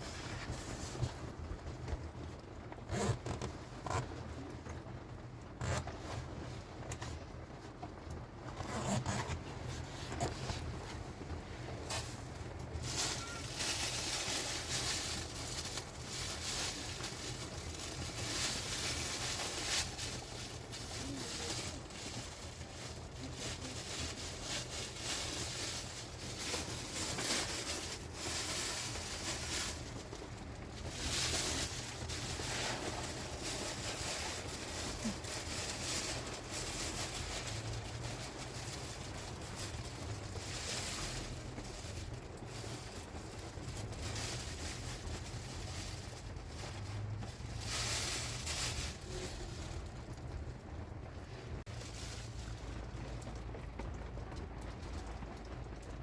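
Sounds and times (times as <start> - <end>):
low rumble of wind: 0.0 - 56.0
rain rushing: 9.6 - 56.0.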